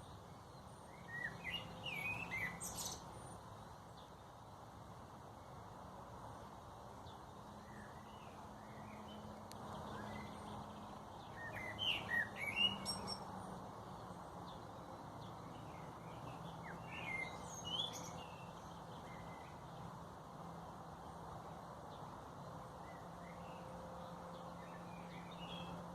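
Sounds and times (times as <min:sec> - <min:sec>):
small birds chirping: 0:00.0 - 0:04.6, 0:06.4 - 0:25.9
faint background noise: 0:00.0 - 0:25.9.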